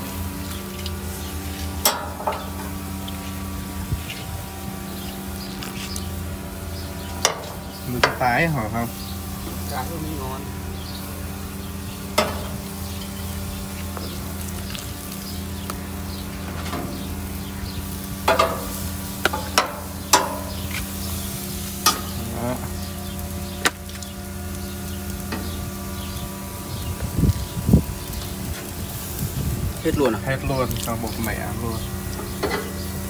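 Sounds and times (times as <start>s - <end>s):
steady low hum: 0.0s - 33.0s
steaks sizzling on a grill: 0.0s - 33.0s.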